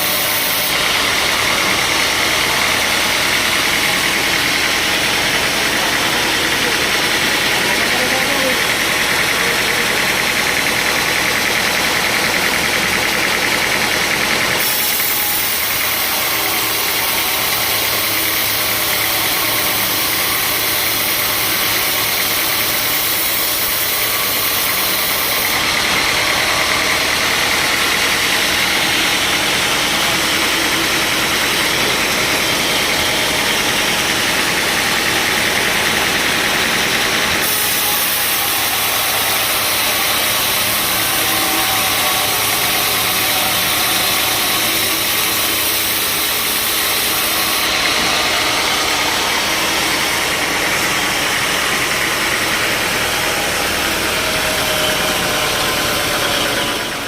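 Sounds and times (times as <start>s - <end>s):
sawmill engine drone: 0.0s - 57.0s.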